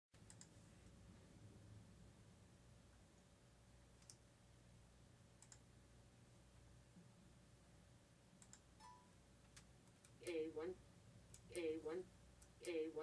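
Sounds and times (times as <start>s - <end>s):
faint room hum: 0.2s - 13.0s.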